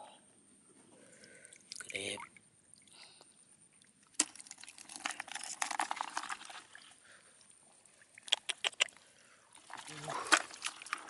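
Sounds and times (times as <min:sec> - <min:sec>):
water splashing and sloshing: 0:01.1 - 0:11.0.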